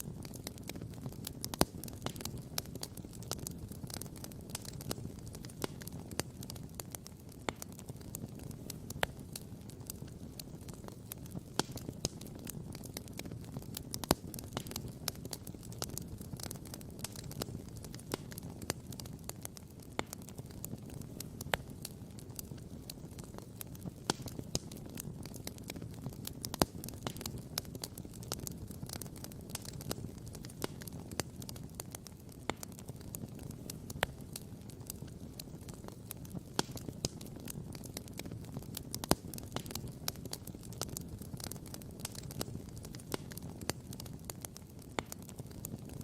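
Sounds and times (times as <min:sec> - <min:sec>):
campfire crackling and popping: 0:00.0 - 0:46.0
loud fire pops: 0:00.0 - 0:46.0.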